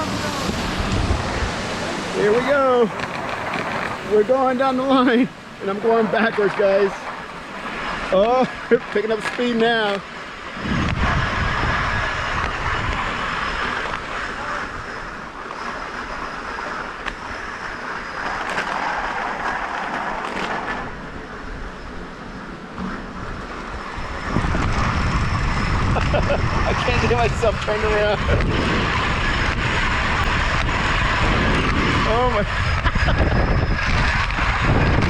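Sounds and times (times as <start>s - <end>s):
wind rumbling on microphone: 0.0s - 35.0s
zipline trolley whirring on cable: 0.0s - 35.0s.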